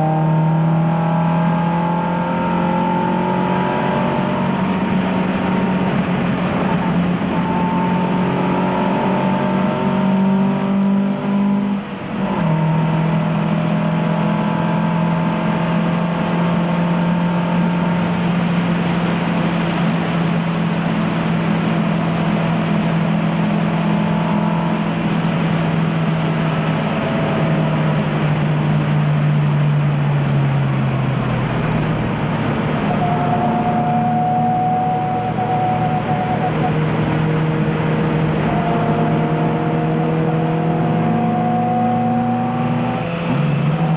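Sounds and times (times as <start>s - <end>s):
car engine at high revs: 0.0s - 43.9s.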